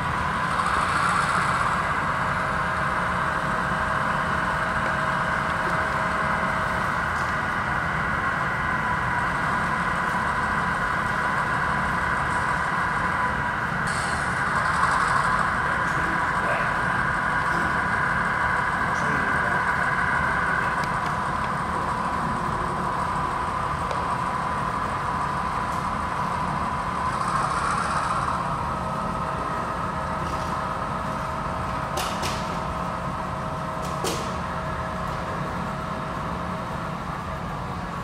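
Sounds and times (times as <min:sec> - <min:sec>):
model train whine: 0:00.0 - 0:38.0.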